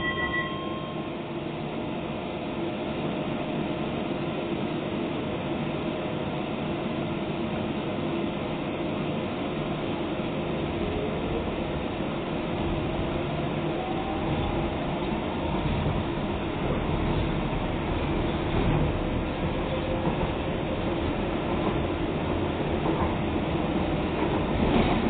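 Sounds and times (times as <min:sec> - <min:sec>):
train electric hum: 0:00.0 - 0:25.0.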